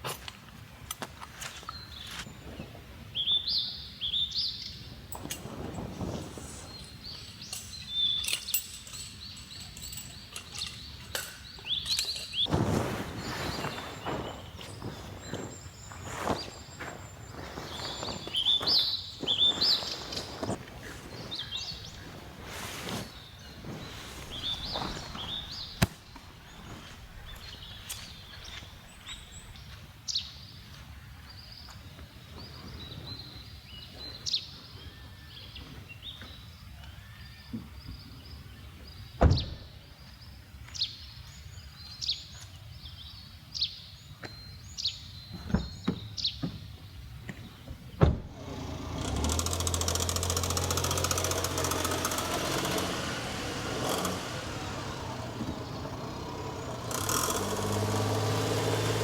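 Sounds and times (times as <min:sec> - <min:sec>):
outdoor background noise: 0:00.0 - 0:59.0
small birds chirping: 0:01.3 - 0:59.0.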